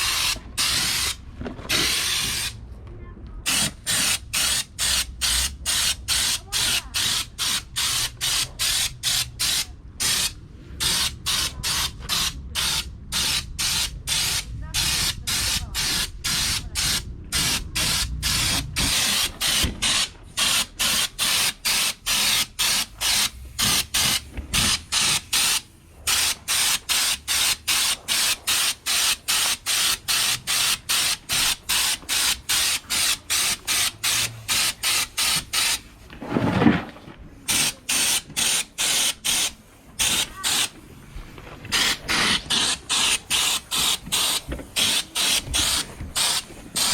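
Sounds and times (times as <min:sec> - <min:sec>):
spray gun hissing bursts: 0:00.0 - 0:02.6, 0:03.5 - 0:35.9, 0:37.5 - 0:40.8, 0:41.7 - 0:46.9.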